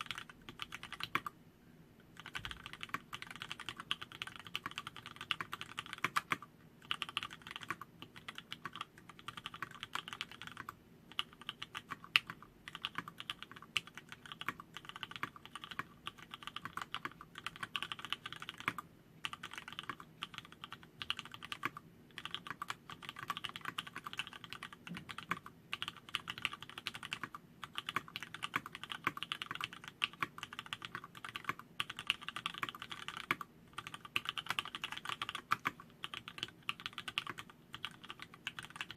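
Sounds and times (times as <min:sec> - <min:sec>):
mechanical keyboard typing: 0:00.0 - 0:01.3, 0:02.1 - 0:38.9.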